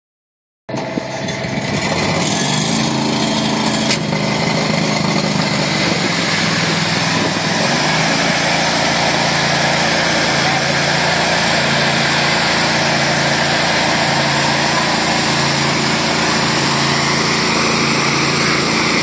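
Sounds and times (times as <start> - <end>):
pressure washer engine running: 0.7 - 19.0.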